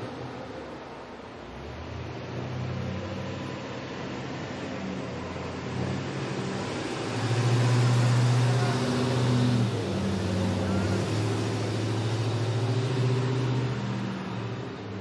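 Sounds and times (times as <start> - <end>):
car engines passing: 0.0 - 15.0.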